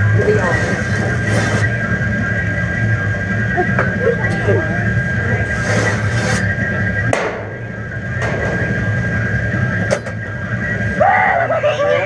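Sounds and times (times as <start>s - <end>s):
low drone: 0.0s - 12.0s.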